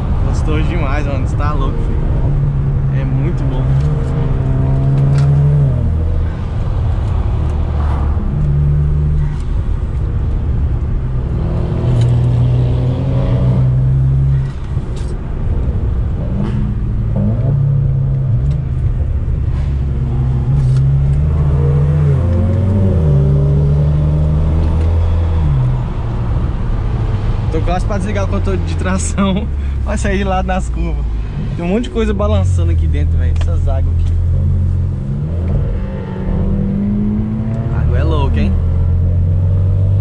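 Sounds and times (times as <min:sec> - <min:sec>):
car engine accelerating: 0:00.1 - 0:40.0.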